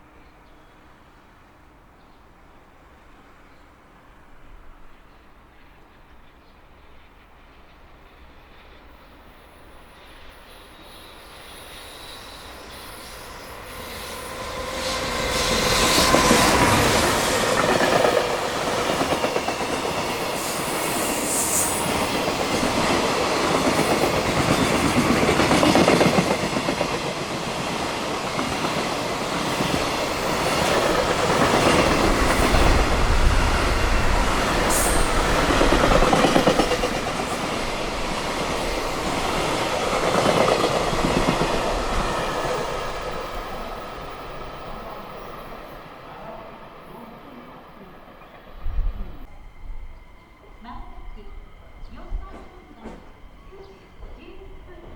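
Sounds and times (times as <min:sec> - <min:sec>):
electric locomotive passing: 0:00.0 - 0:54.9.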